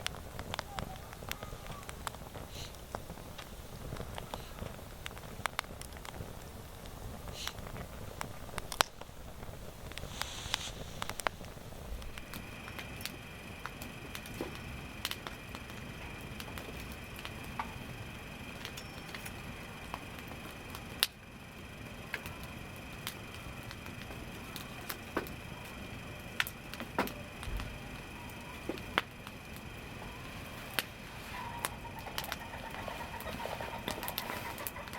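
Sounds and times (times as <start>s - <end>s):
campfire crackling: 0.0s - 34.9s
sharp pops from burning logs: 0.0s - 34.9s.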